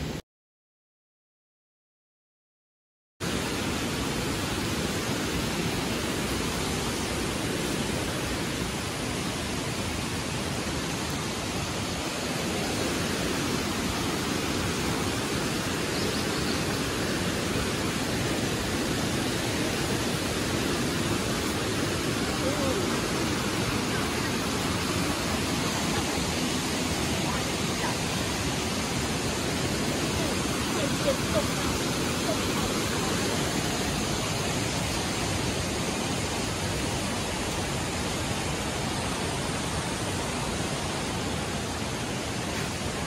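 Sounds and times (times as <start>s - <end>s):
river rushing over rocks: 3.2s - 43.0s.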